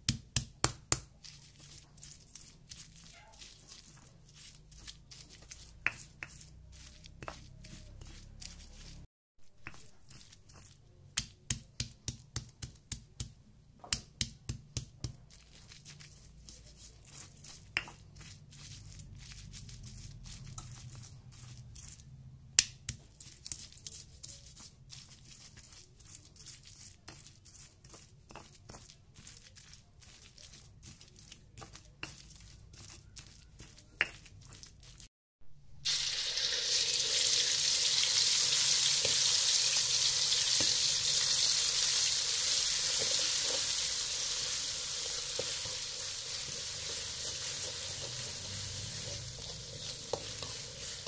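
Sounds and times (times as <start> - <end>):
pestle crushing wet paste: 0.0 - 22.0, 22.6 - 35.1, 41.7 - 51.0.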